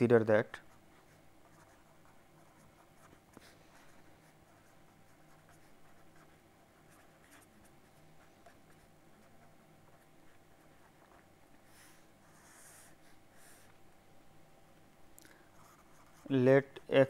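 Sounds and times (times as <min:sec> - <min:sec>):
pen scratching on paper: 0:00.7 - 0:13.7, 0:15.6 - 0:16.4.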